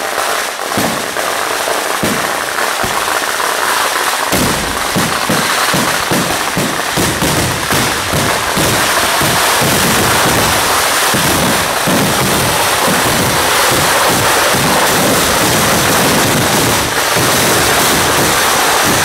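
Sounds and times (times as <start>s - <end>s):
firecrackers bursting: 0.0s - 19.0s.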